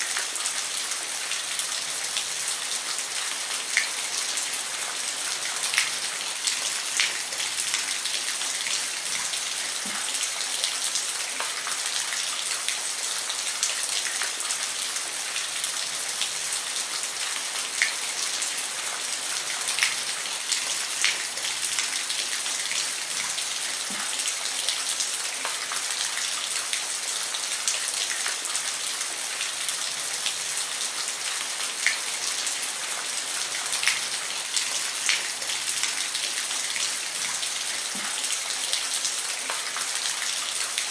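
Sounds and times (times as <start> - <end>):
rain falling on a roof: 0.0 - 40.9.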